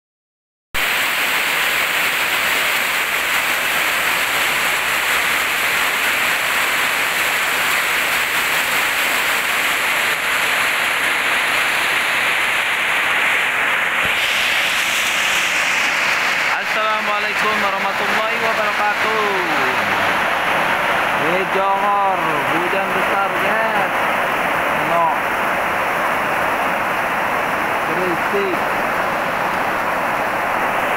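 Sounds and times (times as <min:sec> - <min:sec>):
heavy rain on metal roofs: 0:00.8 - 0:30.9.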